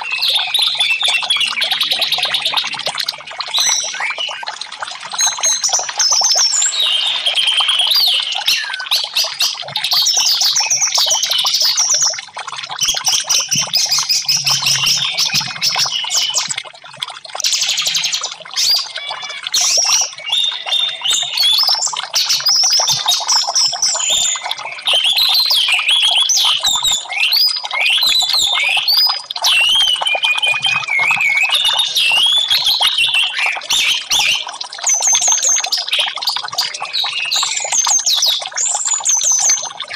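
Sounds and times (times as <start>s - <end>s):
thrush singing whistles and trills: 0.0s - 12.2s, 12.8s - 16.6s, 17.4s - 39.9s
trickling water: 0.0s - 39.9s.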